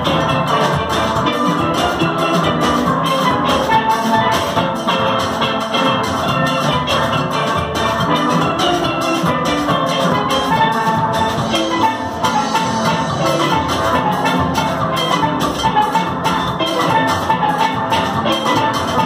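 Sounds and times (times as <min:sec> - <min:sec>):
steel band playing: 0:00.0 - 0:19.0.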